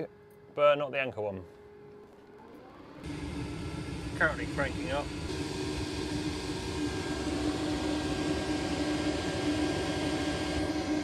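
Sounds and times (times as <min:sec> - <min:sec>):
heater blower fan whirring: 0:00.0 - 0:11.0.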